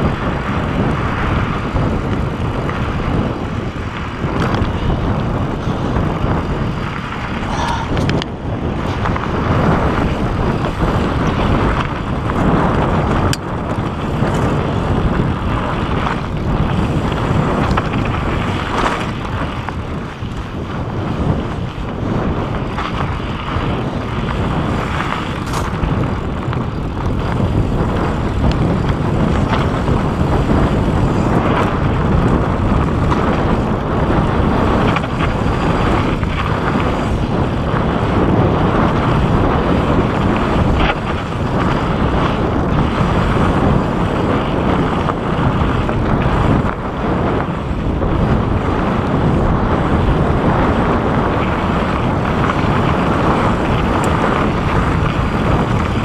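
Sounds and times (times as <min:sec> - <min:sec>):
bike knocks and rattles: 0:00.0 - 0:56.0
tyres rolling over rocky dirt: 0:00.0 - 0:56.0
wind buffeting microphone: 0:00.0 - 0:56.0.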